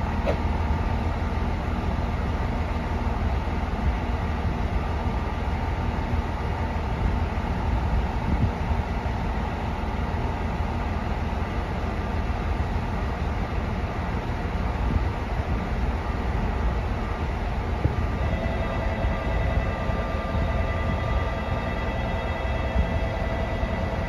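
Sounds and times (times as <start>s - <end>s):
diesel train engine idling: 0.0s - 24.0s.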